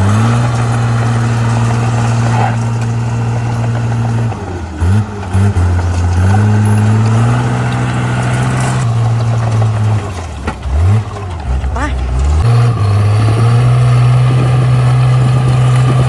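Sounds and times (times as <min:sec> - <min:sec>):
bulldozer diesel engine: 0:00.0 - 0:16.0.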